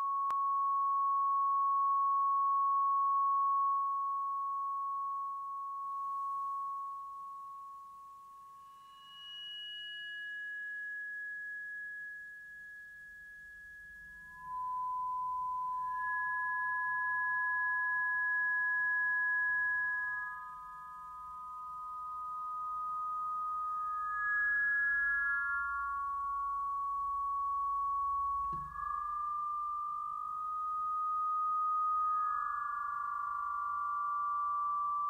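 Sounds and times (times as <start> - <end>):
feedback whistling tones: 0.0 - 35.0.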